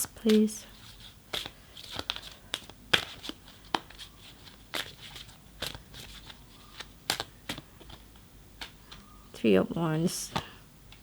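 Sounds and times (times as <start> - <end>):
cards snapping and rustling: 0.0 - 9.0.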